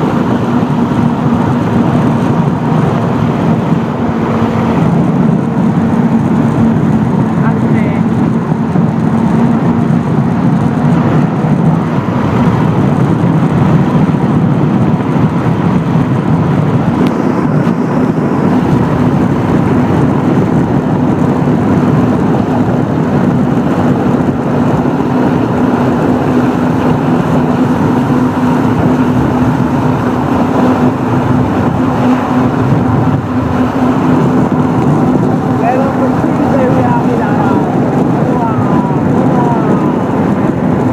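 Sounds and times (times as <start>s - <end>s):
broad rush of noise: 0.0s - 40.9s
jet ski engine droning: 0.0s - 40.9s.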